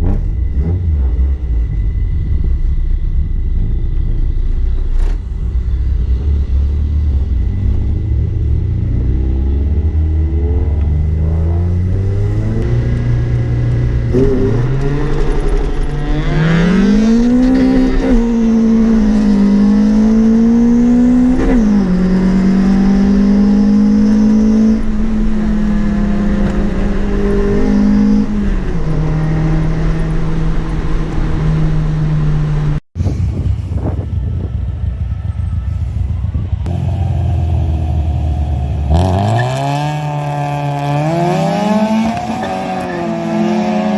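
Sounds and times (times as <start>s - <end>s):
car engine accelerating hard: 0.0s - 32.8s, 35.7s - 43.9s.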